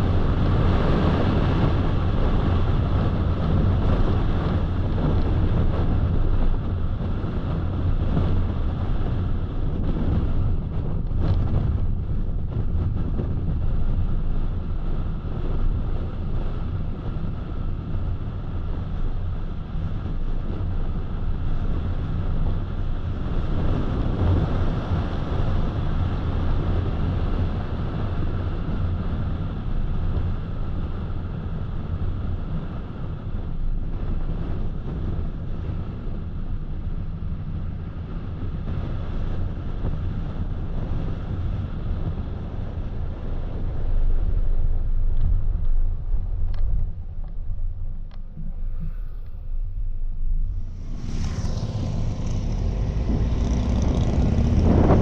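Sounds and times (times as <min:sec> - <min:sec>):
engine and tyre hum: 0:00.0 - 0:55.0
wind noise: 0:00.0 - 0:55.0.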